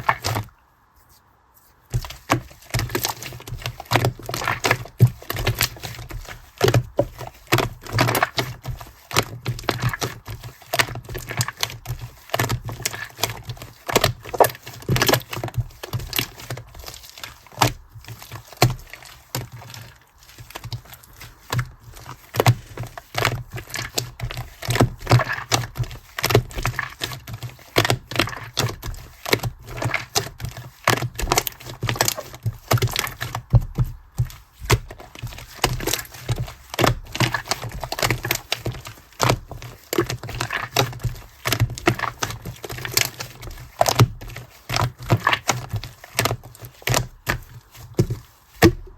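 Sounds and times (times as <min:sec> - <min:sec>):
slime crackling and squelching: 0:01.9 - 0:48.9.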